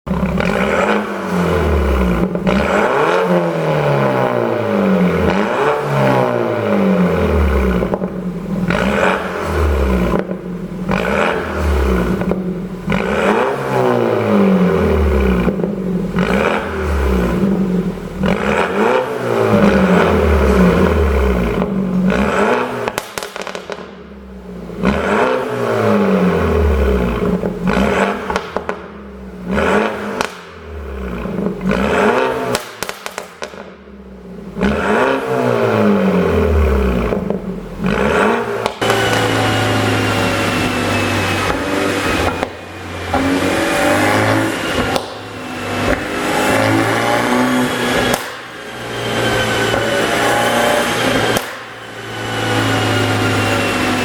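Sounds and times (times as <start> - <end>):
exhaust popping and crackling: 0.1 - 4.4, 7.5 - 13.6, 14.7 - 25.3, 26.8 - 35.2, 36.7 - 54.0
car engine revving: 0.1 - 54.0.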